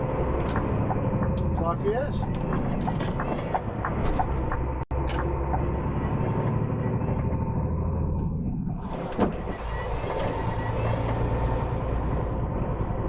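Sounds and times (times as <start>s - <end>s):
lorry engine running: 0.0s - 13.0s.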